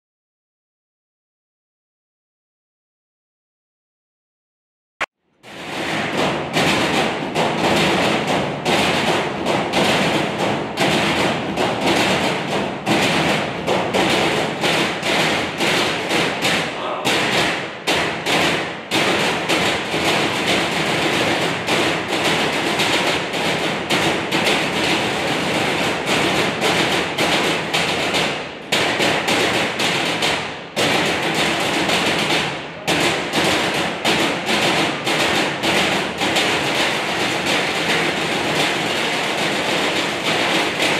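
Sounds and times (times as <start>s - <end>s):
drumming on metal trash cans: 5.5s - 40.9s.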